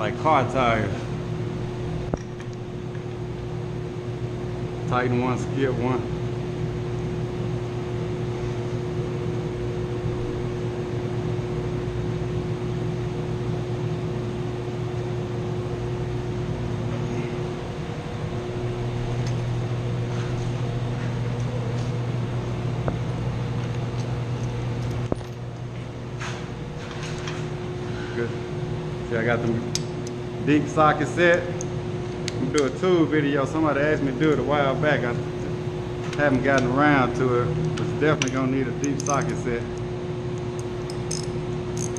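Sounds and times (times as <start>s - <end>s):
machinery humming: 0.0s - 41.9s.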